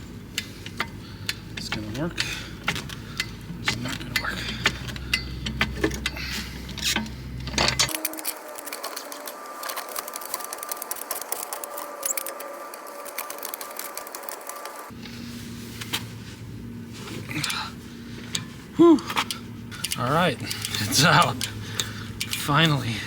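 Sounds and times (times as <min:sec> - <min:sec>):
hand tools clicking and clattering: 0:00.0 - 0:15.0, 0:17.3 - 0:23.0
low background hum: 0:00.0 - 0:23.0.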